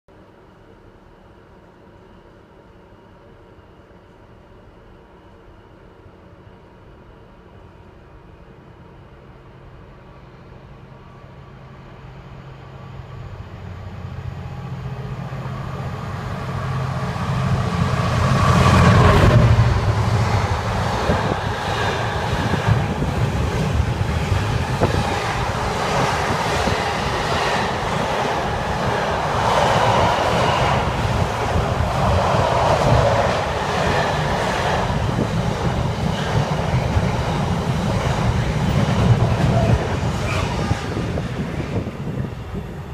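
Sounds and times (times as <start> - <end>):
diesel locomotive engine: 7.9 - 42.9.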